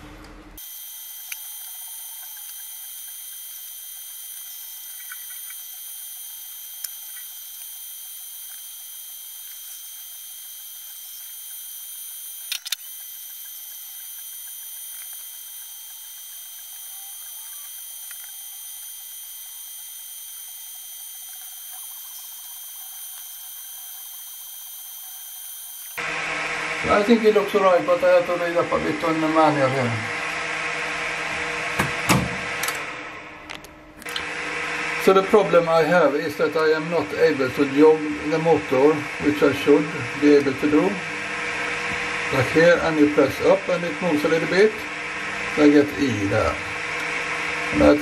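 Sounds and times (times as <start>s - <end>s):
high-pitched electrical whine: 0.0s - 48.0s.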